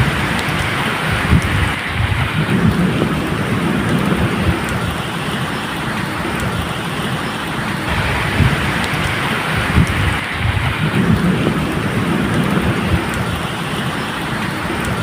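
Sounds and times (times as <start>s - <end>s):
thunder rumbling: 0.0s - 7.1s, 7.8s - 15.0s
rain falling: 0.0s - 15.0s.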